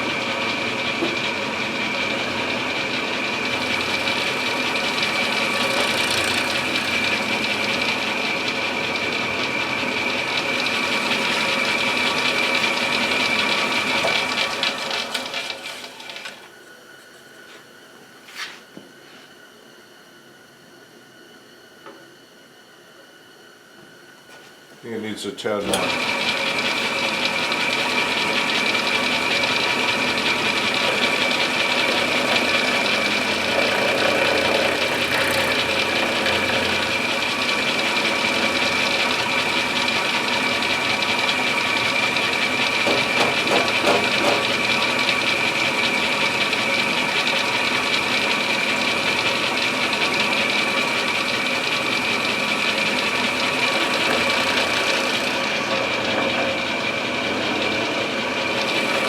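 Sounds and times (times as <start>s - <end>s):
milling machine cutting wood: 0.0s - 16.6s, 25.5s - 59.0s.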